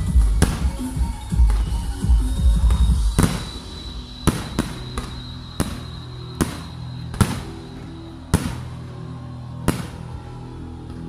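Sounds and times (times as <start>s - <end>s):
fireworks bursting with echo: 0.0s - 10.5s.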